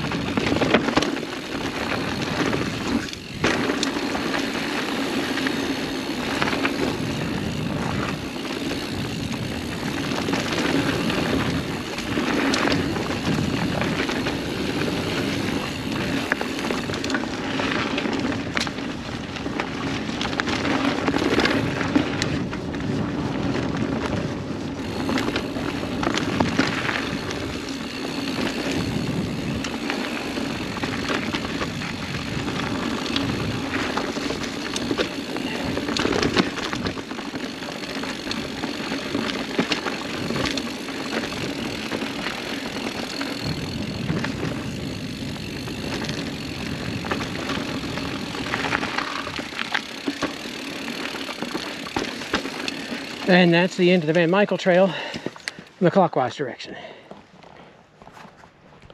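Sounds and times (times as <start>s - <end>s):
bike clicks and rattles: 0.0s - 58.9s
bike tyres rushing on dirt: 0.0s - 58.9s.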